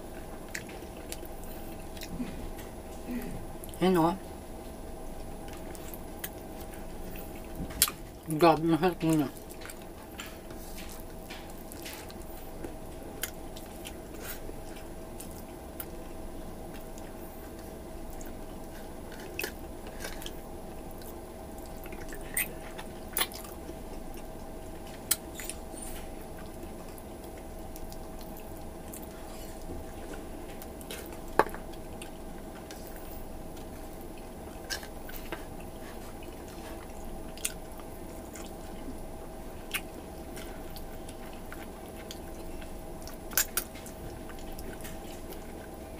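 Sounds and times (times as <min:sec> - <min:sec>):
steady background hum: 0:00.0 - 0:45.9
person chewing and smacking: 0:00.1 - 0:03.8, 0:04.7 - 0:08.3, 0:09.0 - 0:45.9.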